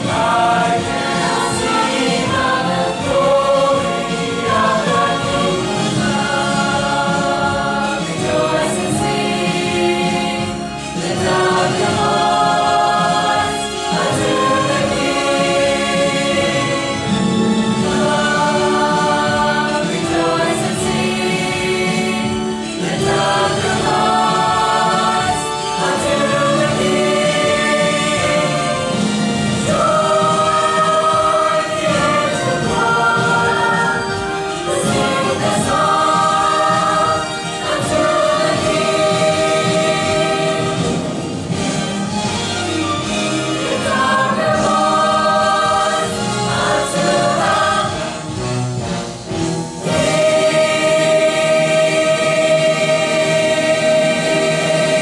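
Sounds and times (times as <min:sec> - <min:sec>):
choir singing in parts: 0:00.0 - 0:55.0.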